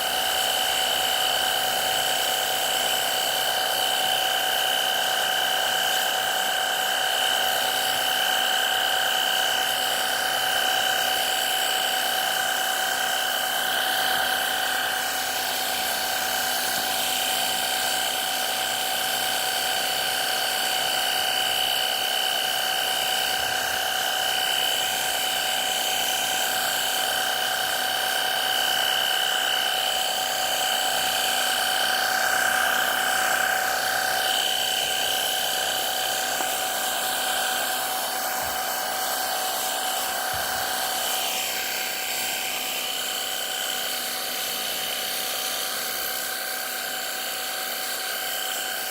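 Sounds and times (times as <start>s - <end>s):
pressure washer whining: 0.0s - 48.9s.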